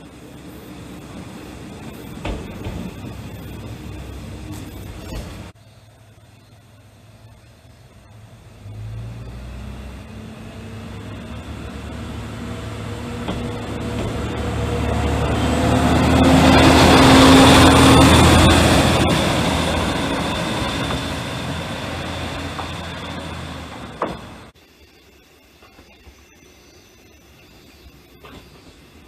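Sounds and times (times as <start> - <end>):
diesel railcar engine accelerating: 0.0 - 24.6.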